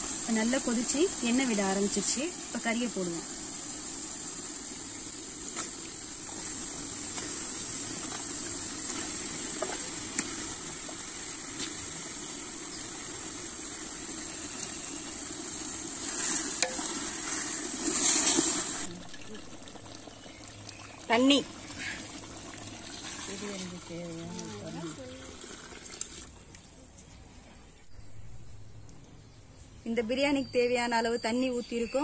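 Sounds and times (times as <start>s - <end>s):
masala sizzling in oil: 0.0s - 26.2s.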